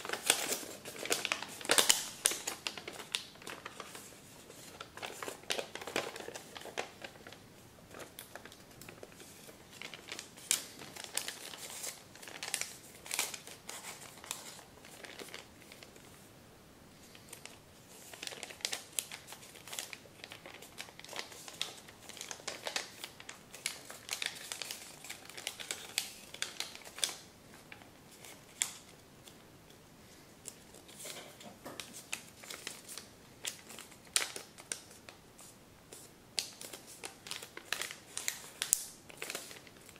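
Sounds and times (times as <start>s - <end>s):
paper crinkling and rustling: 0.0s - 16.2s, 17.1s - 29.4s, 30.4s - 39.9s.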